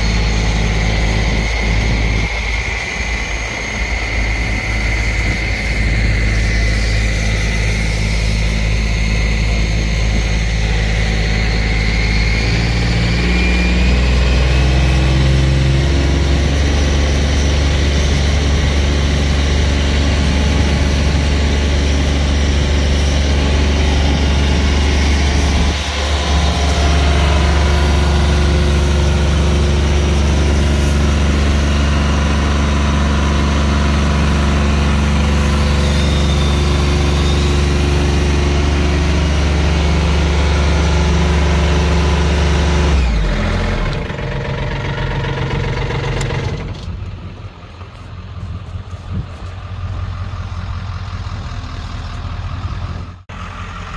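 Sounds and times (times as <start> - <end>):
diesel pump engine running: 0.0 - 53.9.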